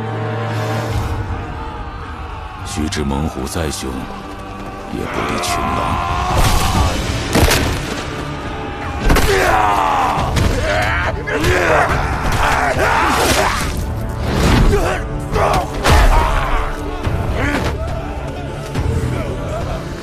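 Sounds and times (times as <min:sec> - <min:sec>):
dramatic orchestral score: 0:00.0 - 0:20.0
men crying out and grunting: 0:00.9 - 0:02.9, 0:04.1 - 0:07.4, 0:08.2 - 0:20.0.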